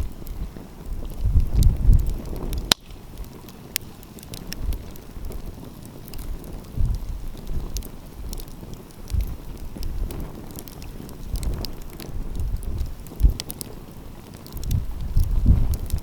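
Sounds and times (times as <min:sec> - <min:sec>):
wind gusting on microphone: 0:00.0 - 0:16.0
wood fire crackling and popping: 0:00.0 - 0:16.0.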